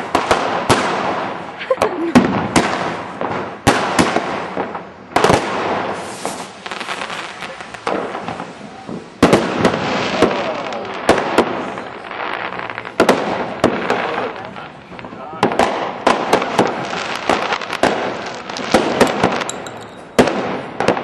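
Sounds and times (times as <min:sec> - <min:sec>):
fireworks bangs with echo: 0:00.0 - 0:21.0
fireworks crackling: 0:00.0 - 0:21.0.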